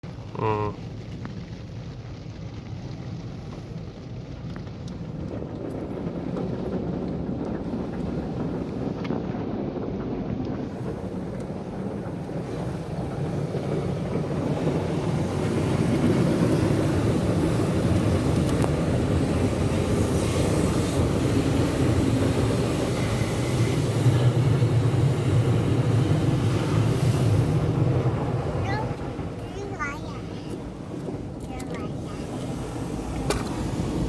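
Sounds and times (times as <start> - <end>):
car wash machinery running: 0.0 - 34.0.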